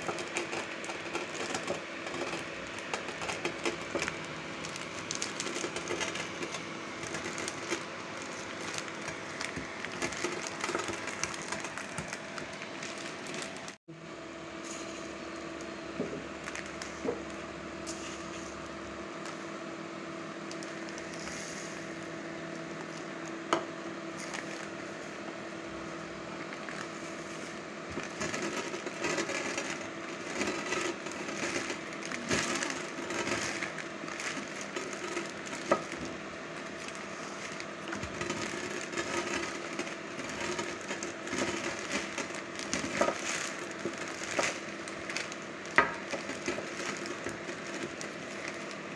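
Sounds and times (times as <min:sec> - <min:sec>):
plastic bag rustling: 0:00.0 - 0:13.8, 0:16.2 - 0:19.4, 0:24.2 - 0:25.4, 0:26.0 - 0:48.9
steady hum: 0:00.0 - 0:48.9.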